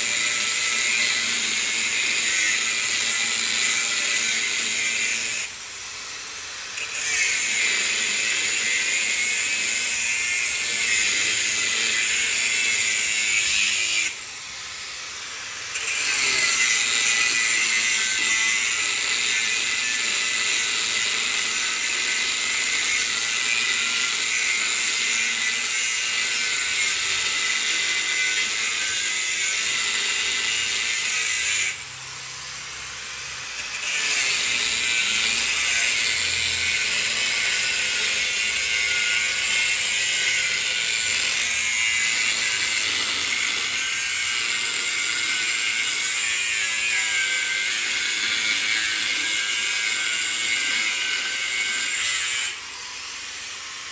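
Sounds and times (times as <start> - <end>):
angle grinder cutting metal: 0.0 - 53.9.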